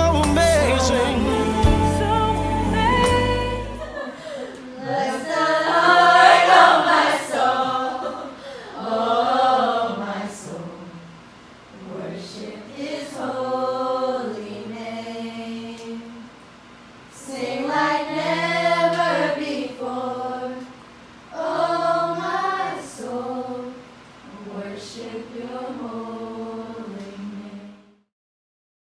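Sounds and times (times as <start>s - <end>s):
teenagers singing unaccompanied: 0.0s - 28.0s.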